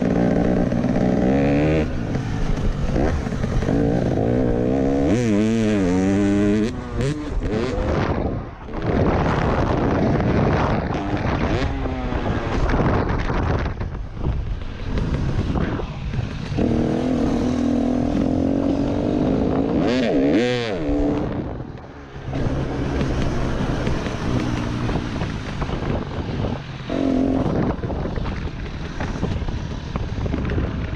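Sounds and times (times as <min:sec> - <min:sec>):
motocross bike engine revving: 0:00.0 - 0:13.2, 0:14.8 - 0:28.1
wind rushing over microphone: 0:00.0 - 0:30.9.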